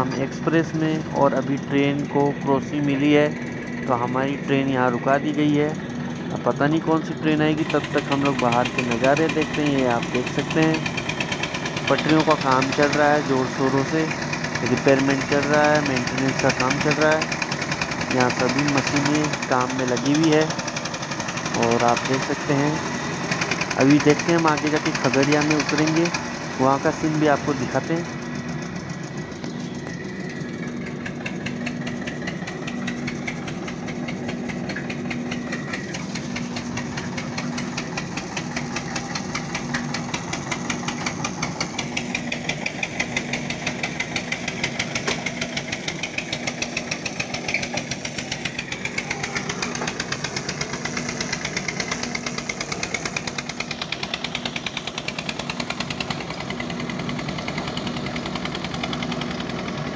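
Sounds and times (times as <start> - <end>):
engine knocking: 0.0 - 59.9.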